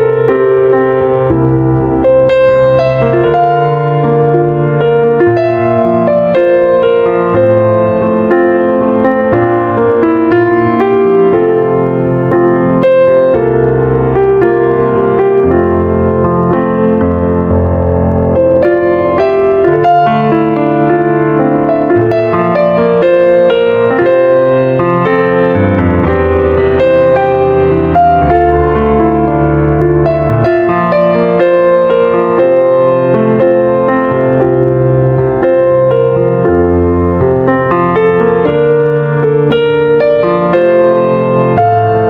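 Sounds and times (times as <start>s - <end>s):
piano music: 0.0s - 42.0s.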